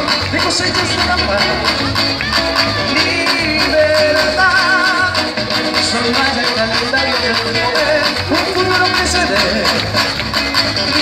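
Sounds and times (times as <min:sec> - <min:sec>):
bass: 0:00.0 - 0:11.0
percussion beat: 0:00.0 - 0:11.0.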